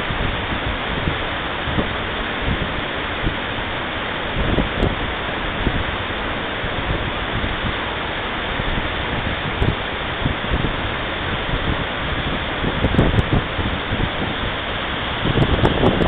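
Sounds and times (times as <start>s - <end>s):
waterfall rushing: 0.0s - 16.0s
wind on microphone: 0.0s - 16.0s.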